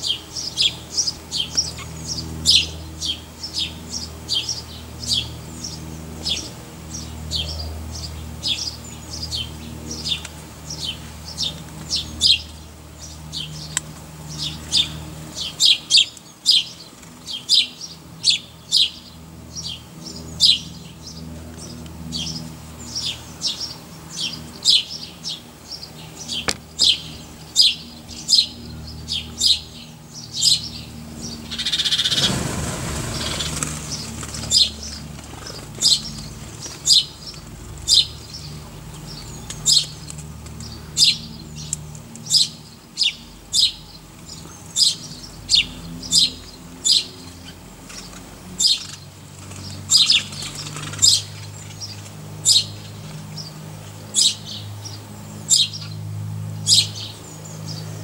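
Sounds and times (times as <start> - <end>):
small bird chirping: 0.0 - 32.4, 33.1 - 58.0.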